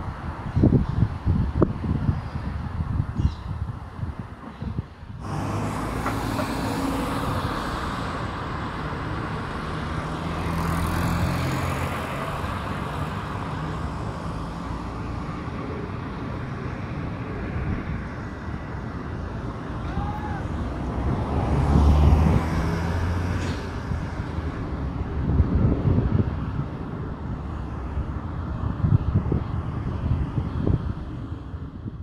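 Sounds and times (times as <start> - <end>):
road traffic noise: 0.0 - 32.0
wind buffeting microphone: 0.0 - 32.0
car passing: 5.2 - 31.6.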